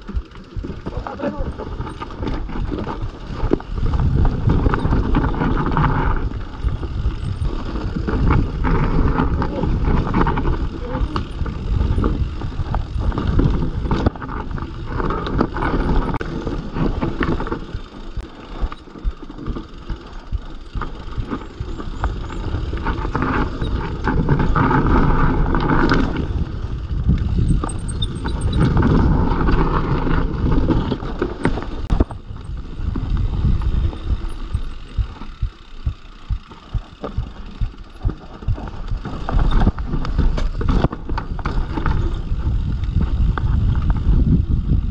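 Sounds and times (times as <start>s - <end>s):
bike rattling over bumps: 0.0s - 44.9s
wind rumbling on microphone: 0.0s - 44.9s.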